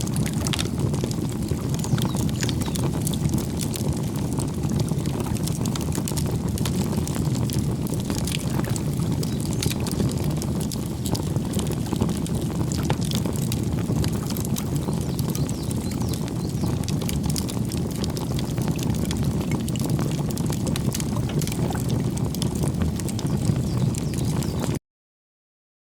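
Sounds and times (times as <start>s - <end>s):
campfire crackling and popping: 0.0s - 24.8s
low rush of flame: 0.0s - 24.8s.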